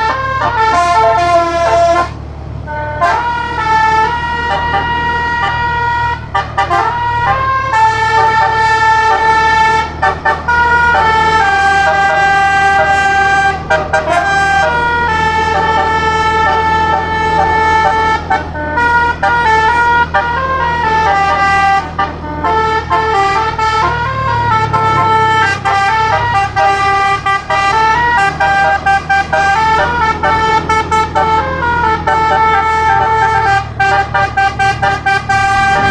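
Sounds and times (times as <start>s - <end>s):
air horns playing a melody: 0.0s - 35.9s.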